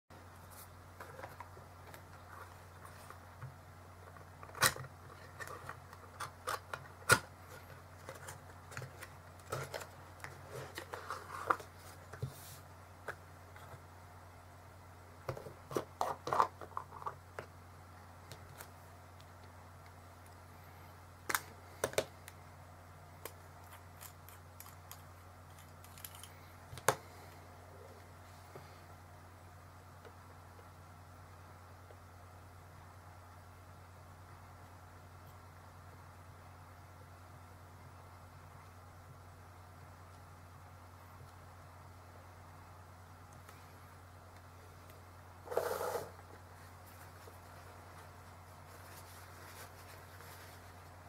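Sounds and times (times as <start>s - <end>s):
steady low hum: 0.1s - 51.0s.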